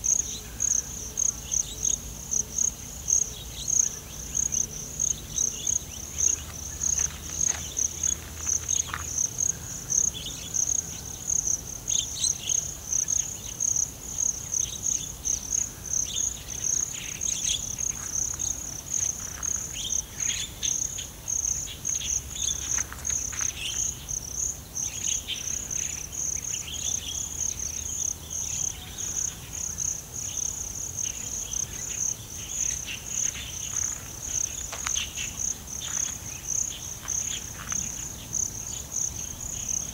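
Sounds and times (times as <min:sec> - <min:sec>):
insects chirping chorus: 0:00.0 - 0:39.9.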